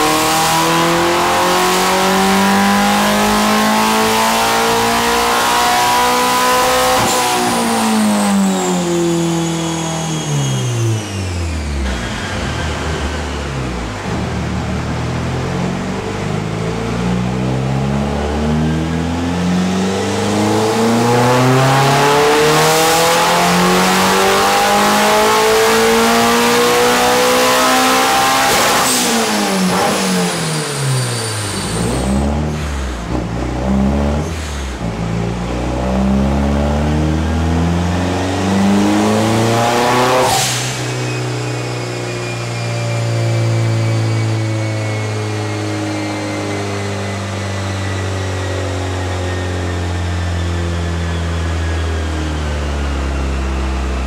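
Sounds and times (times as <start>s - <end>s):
car engine revving on dyno: 0.0s - 54.0s.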